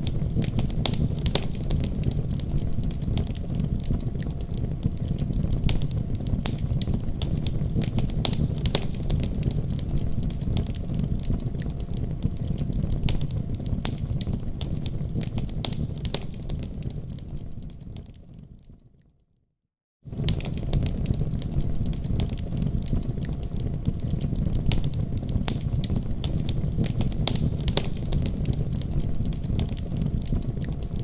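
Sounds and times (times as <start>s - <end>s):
fire crackling and popping: 0.0s - 18.9s, 20.1s - 31.0s.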